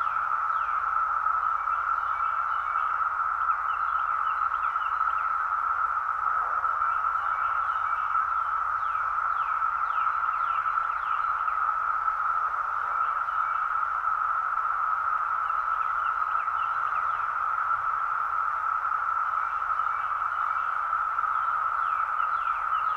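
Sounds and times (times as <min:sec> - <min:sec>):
cicadas droning: 0:00.0 - 0:22.9.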